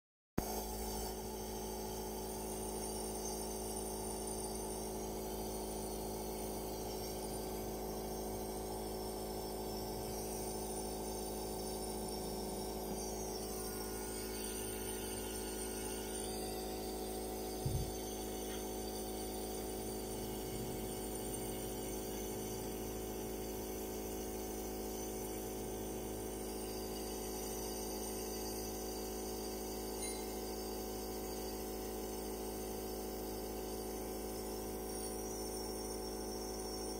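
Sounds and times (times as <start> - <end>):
nebulizer compressor humming: 0.4 - 36.9.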